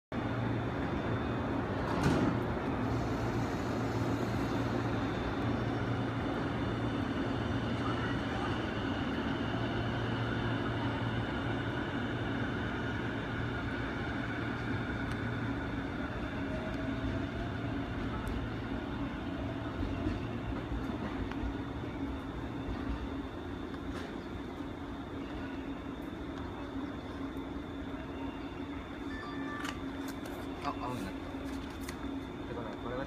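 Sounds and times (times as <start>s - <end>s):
train equipment humming: 0.1s - 33.0s.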